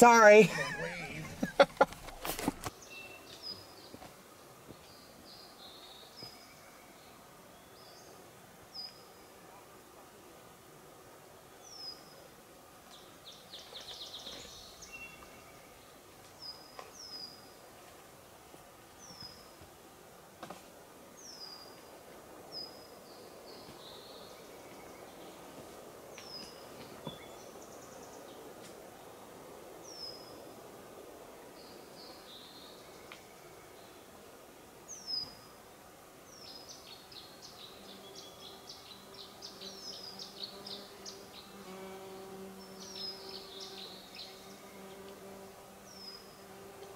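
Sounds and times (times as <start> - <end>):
songbirds singing: 0.0 - 9.4, 11.4 - 17.6, 21.1 - 30.5, 31.4 - 34.2, 34.9 - 35.6, 36.3 - 46.9
faint background hiss: 0.0 - 46.9.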